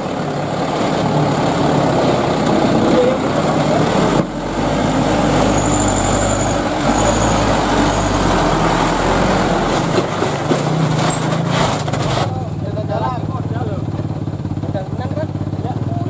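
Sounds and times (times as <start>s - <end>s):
diesel truck engine under load: 0.0s - 14.6s.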